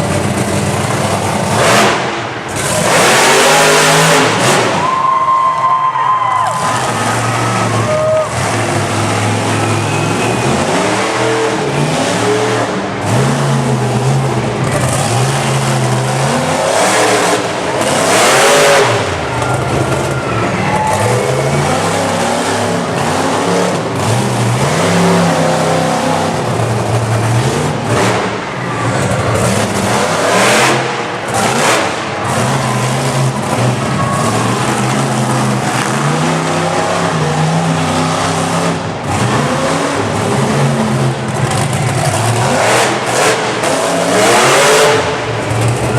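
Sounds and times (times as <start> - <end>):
truck engines revving: 0.0 - 45.9.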